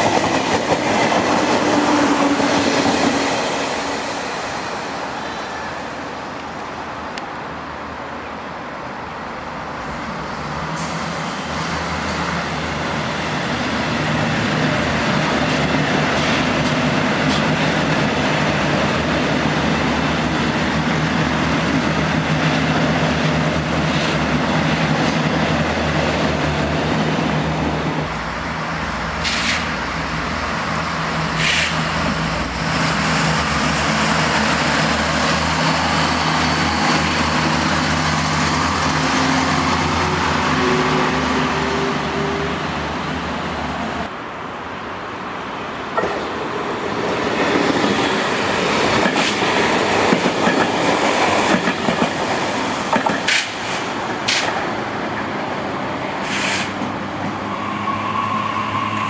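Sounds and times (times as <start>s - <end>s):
train passing with low drone: 0.0s - 59.0s
train wheel-on-rail noise: 0.0s - 59.0s.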